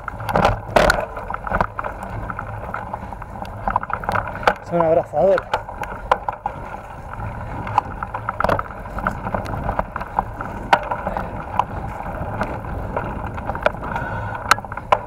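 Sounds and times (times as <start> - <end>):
bike rattling over bumps: 0.0 - 15.0
bike tyres rumbling on dirt trail: 0.0 - 15.0.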